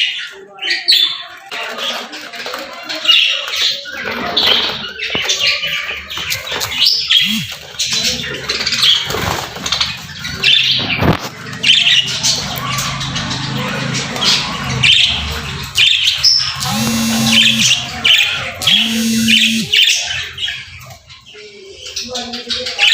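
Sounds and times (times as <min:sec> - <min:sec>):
budgerigars chirping and squawking: 0:03.0 - 0:22.9.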